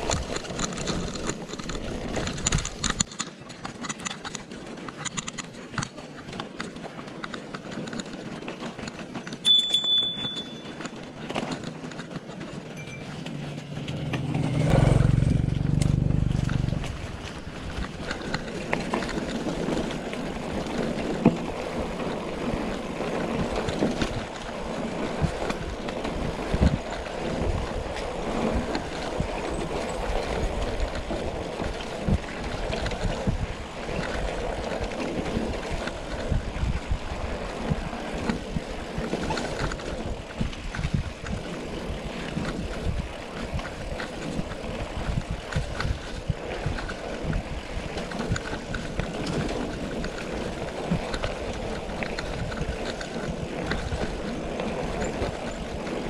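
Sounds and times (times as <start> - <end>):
bike knocks and rattles: 0.0 - 56.0
bike rolling rushing noise: 0.0 - 56.0.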